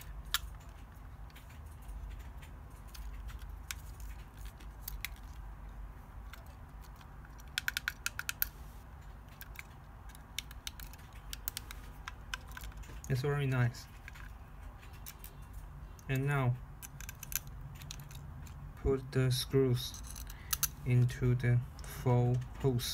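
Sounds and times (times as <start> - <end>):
small parts clicking and tapping: 0.0 - 18.9, 19.7 - 22.9.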